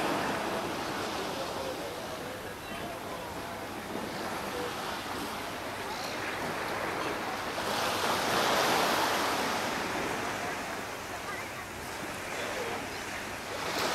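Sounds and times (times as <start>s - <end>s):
waves washing against shore: 0.0s - 13.9s.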